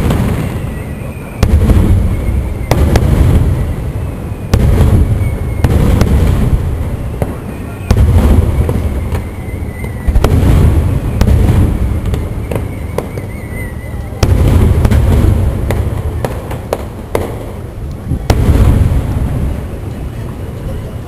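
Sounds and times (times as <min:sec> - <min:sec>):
firework booms: 0:00.0 - 0:20.2
firework crackles and pops: 0:00.0 - 0:21.0.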